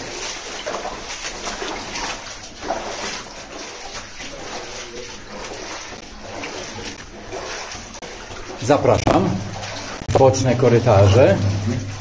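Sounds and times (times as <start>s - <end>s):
footsteps splashing on wet floor: 0.0s - 12.0s.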